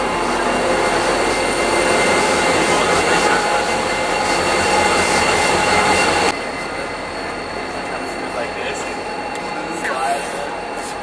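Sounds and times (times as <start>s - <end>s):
diesel locomotive engine drone: 0.0s - 11.0s
train rumbling on rails: 0.0s - 11.0s.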